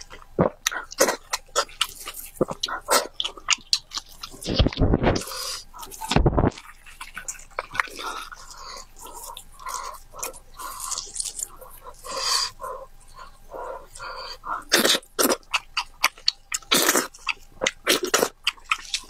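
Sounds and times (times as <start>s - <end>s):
wet chewing and lip smacks: 0.0s - 19.0s.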